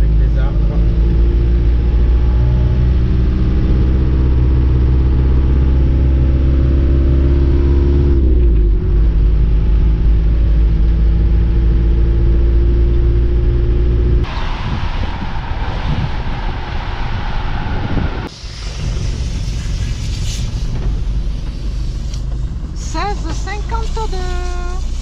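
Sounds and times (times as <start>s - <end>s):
diesel engine drone: 0.0s - 25.0s.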